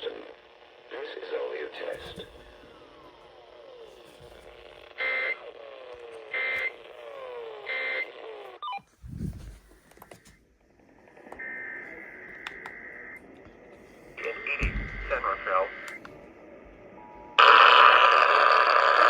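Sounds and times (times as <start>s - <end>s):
radio hiss: 0.0s - 8.1s, 11.4s - 19.0s.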